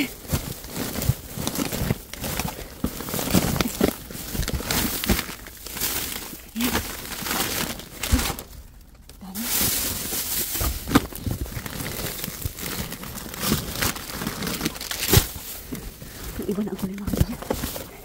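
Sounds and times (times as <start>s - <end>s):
cardboard rustling: 0.0s - 18.0s
plastic bags crinkling: 0.0s - 18.0s.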